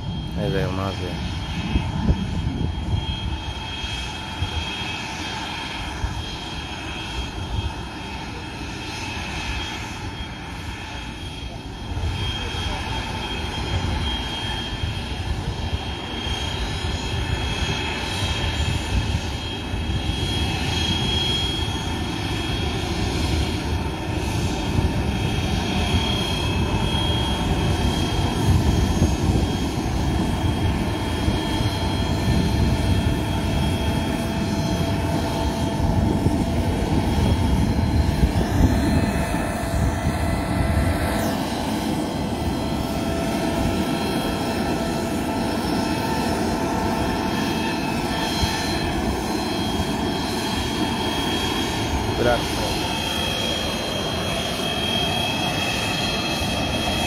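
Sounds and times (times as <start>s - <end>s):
aircraft engines rumbling: 0.0s - 57.0s.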